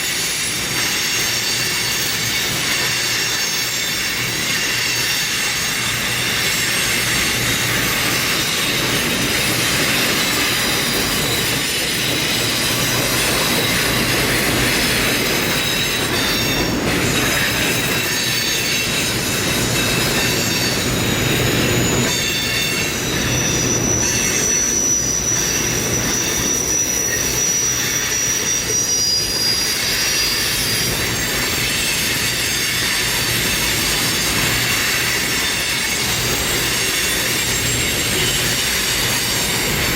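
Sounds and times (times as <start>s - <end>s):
train rolling by: 0.0s - 39.9s
wheels squealing on rail: 0.0s - 39.9s.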